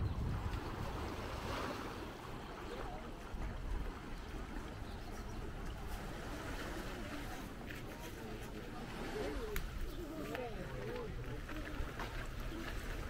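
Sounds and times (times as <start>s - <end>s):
sea waves washing onto beach: 0.0s - 13.0s
wind rumbling on microphone: 0.0s - 13.0s.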